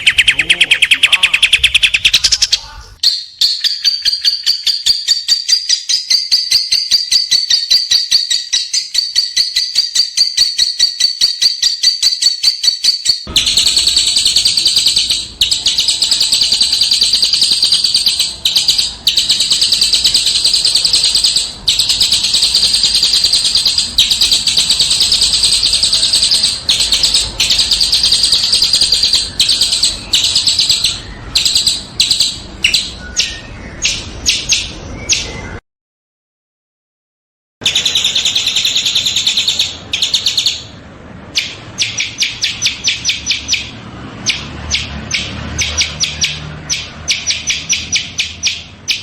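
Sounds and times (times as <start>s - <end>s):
songbird harsh chattering song: 0.0s - 35.6s, 37.6s - 49.0s.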